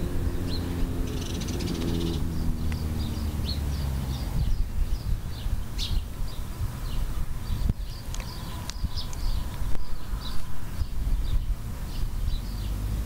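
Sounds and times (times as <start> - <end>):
idling engine hum: 0.0 - 13.0
small bird chirping: 0.3 - 13.0.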